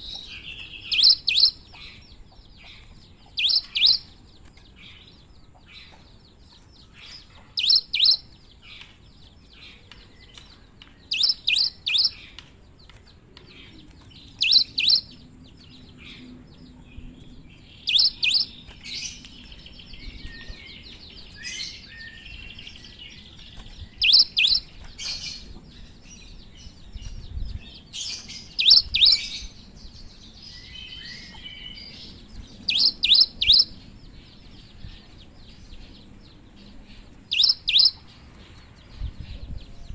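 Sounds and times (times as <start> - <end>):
soft bird twittering: 0.0 - 39.9.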